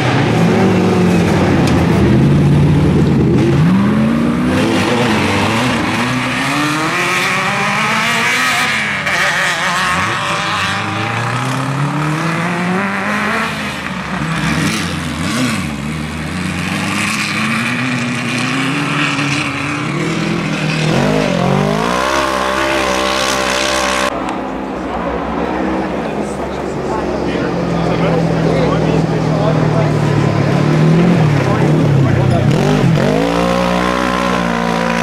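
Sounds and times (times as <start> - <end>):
buggy engines revving: 0.0 - 35.0
off-road vehicle engine revving: 0.0 - 35.0.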